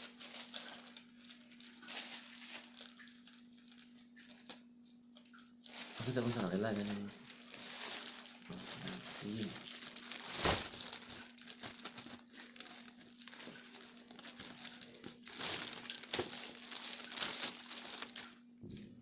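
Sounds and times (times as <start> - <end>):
faint steady hum: 0.0 - 19.0
packaging crinkling and rustling: 0.0 - 19.0.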